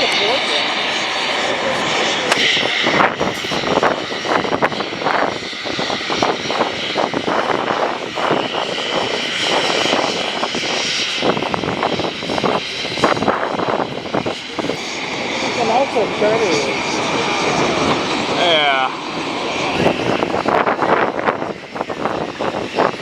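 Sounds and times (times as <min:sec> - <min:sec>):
jet engines idling: 0:00.0 - 0:23.0.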